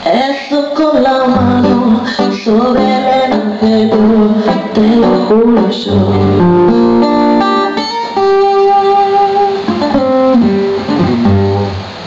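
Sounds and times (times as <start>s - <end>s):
guitar melody with bass notes: 1.4s - 12.0s.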